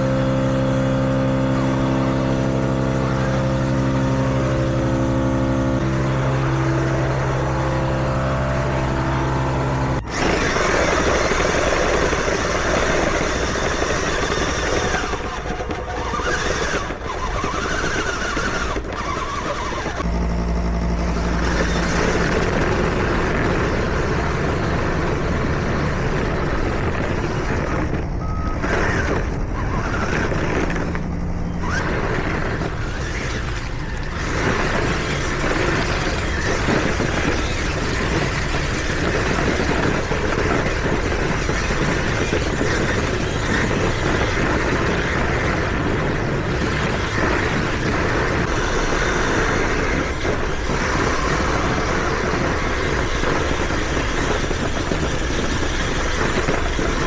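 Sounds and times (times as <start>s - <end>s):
toy tracked vehicle running: 0.0s - 57.0s.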